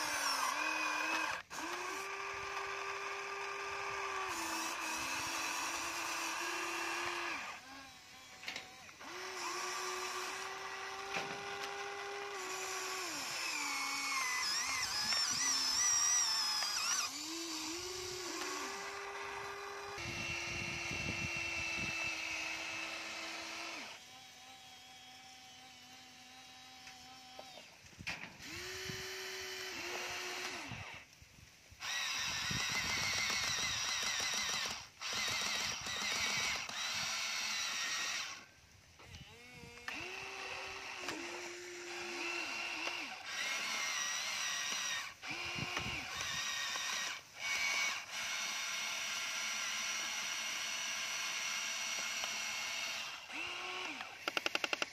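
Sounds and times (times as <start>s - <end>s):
toy excavator motors whining: 0.0s - 31.2s, 31.8s - 54.9s.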